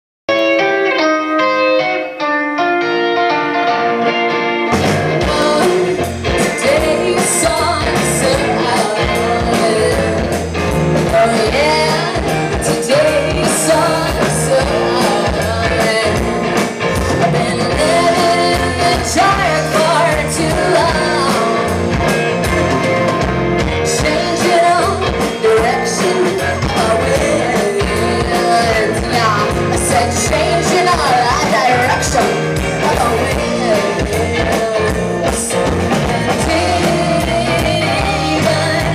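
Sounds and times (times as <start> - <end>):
bass guitar: 0.3 - 38.9
drums: 0.3 - 38.9
electric guitar: 0.3 - 38.9
woman singing: 5.2 - 21.8, 23.8 - 38.9.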